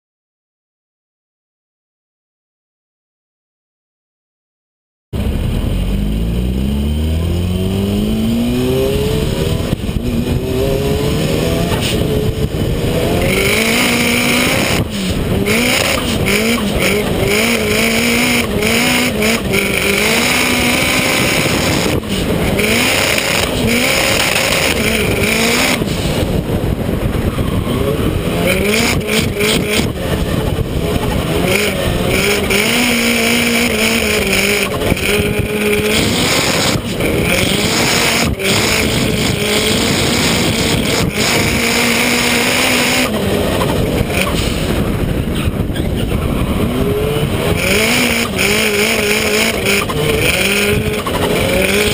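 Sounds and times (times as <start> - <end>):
car engine revving hard: 5.2 - 51.9
wind on microphone: 5.2 - 51.9.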